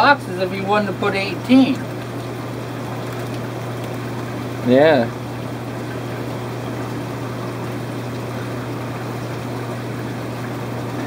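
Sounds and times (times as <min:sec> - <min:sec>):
aquarium pumps humming: 0:00.0 - 0:11.0.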